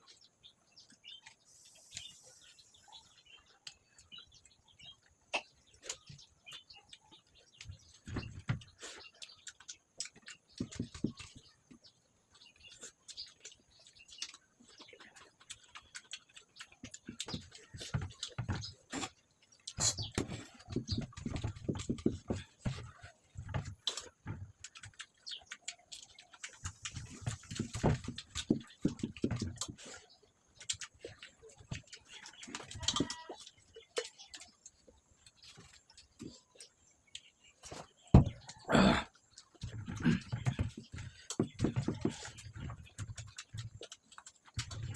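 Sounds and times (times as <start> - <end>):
wet chewing and lip-smacking: 0.8 - 44.9.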